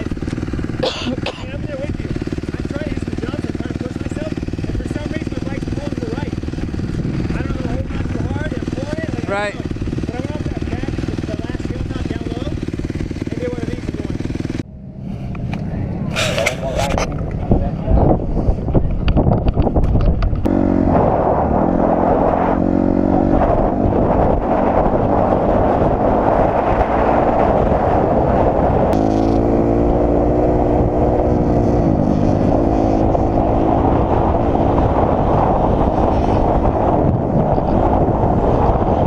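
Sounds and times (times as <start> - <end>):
dirt bike engine revving: 0.0 - 14.7, 20.4 - 39.0.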